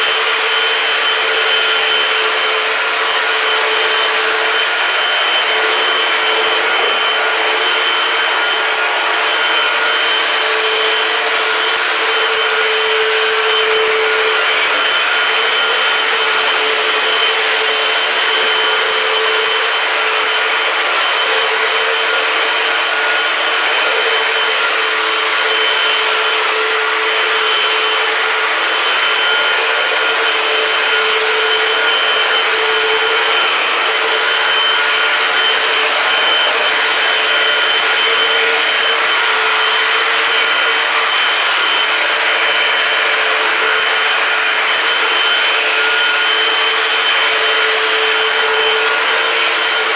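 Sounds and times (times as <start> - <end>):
upright vacuum cleaner running: 0.0 - 49.9.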